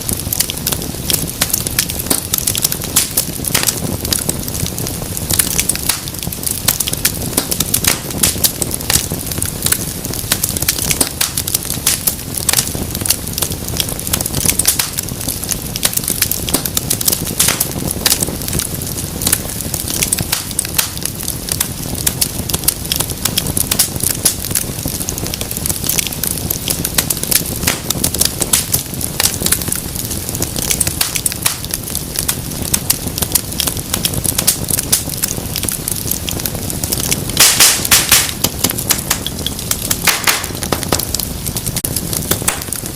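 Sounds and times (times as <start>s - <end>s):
low rush of flames: 0.0s - 42.9s
wood fire crackling and popping: 0.0s - 42.9s.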